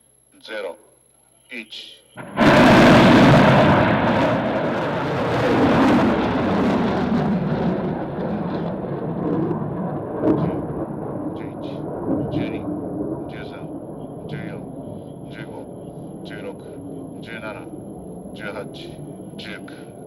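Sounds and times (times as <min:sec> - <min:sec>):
rocket motor roaring: 0:02.2 - 0:20.0.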